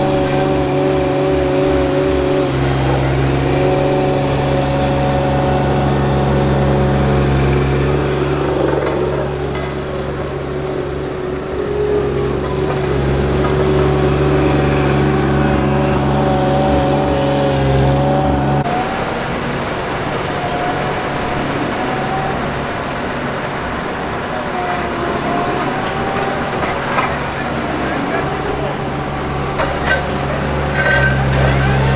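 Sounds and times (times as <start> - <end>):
roadworks machinery engines: 0.0 - 31.9
wavering whine: 0.0 - 31.9.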